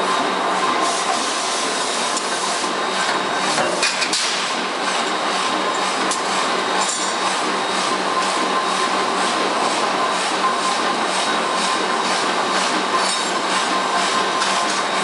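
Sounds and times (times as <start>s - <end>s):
forging press machinery noise: 0.0s - 15.0s.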